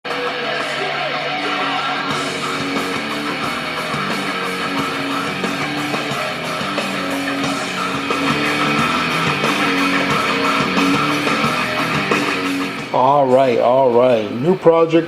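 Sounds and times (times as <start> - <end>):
guitar-led intro music: 0.0 - 15.0.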